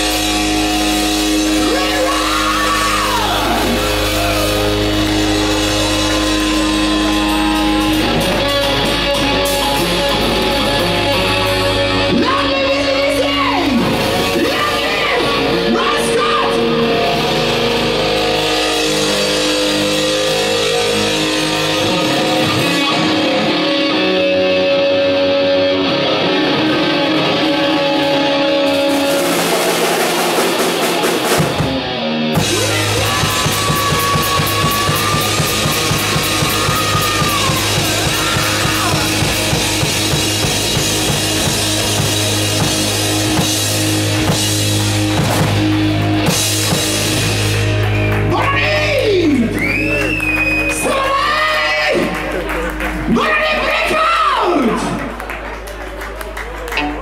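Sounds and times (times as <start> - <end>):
hard rock band playing: 0.0 - 55.3.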